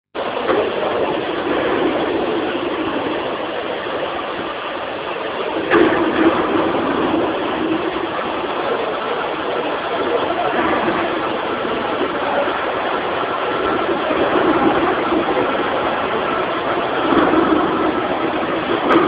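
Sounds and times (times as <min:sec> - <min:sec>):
loud mechanical running noise: 0:00.2 - 0:19.0.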